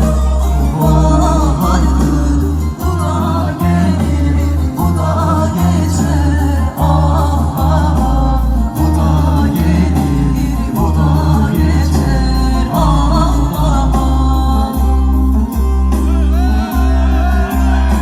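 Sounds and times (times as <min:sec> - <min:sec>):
music with singing and heavy bass: 0:00.0 - 0:18.0.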